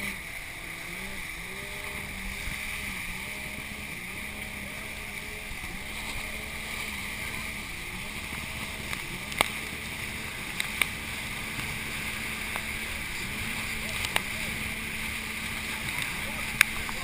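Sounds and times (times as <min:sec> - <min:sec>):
low engine hum: 0:00.0 - 0:17.0
muffled rush of water and wind: 0:00.0 - 0:17.0.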